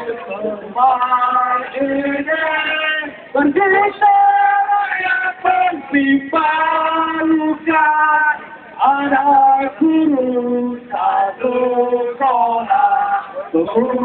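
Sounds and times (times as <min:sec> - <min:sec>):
voices singing a slow chant: 0:00.0 - 0:14.0.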